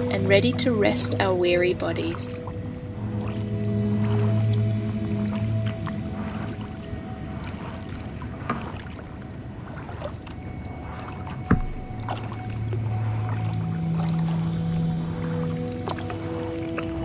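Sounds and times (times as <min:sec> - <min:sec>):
paddle dipping in water: 0:00.0 - 0:17.0
small splashes: 0:00.0 - 0:17.0
soft background music: 0:00.0 - 0:17.0
water dripping: 0:00.0 - 0:17.0.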